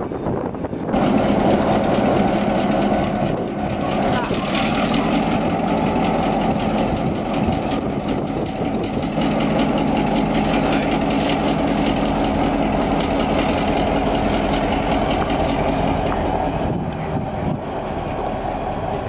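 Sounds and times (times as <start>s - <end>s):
diesel locomotive engine humming: 0.0s - 19.0s.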